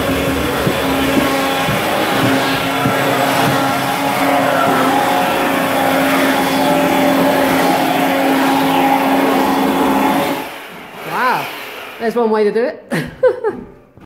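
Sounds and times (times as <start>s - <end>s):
chainsaw cutting floorboards: 0.0s - 12.0s.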